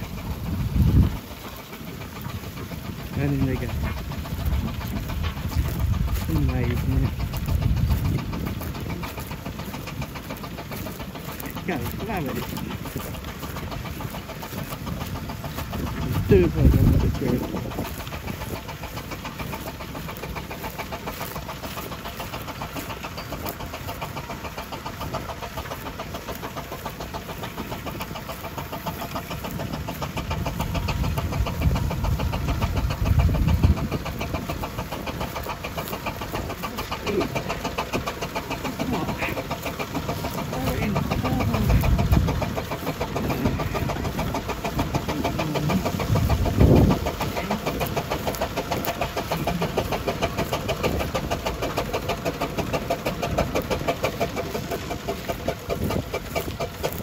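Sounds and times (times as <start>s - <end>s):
low rumbles: 0.0s - 57.0s
steam engine running: 0.0s - 57.0s.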